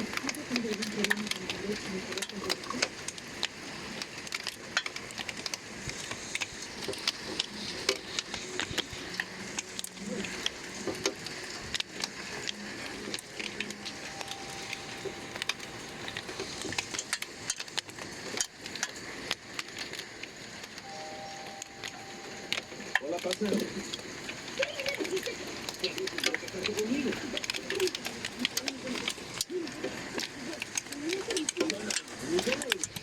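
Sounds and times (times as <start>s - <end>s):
hailstones striking hard surfaces: 0.0s - 33.0s
steady hiss of rain: 0.0s - 33.0s.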